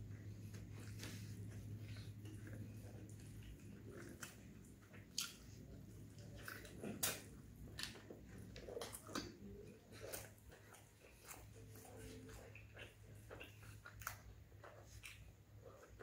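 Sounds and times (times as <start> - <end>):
low steady hum: 0.0 - 16.0
wet chewing mouth sounds: 0.0 - 16.0.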